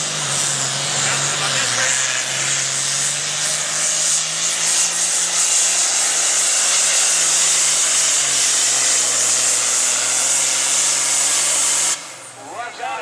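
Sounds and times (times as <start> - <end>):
tractor diesel engine roaring: 0.0 - 13.0.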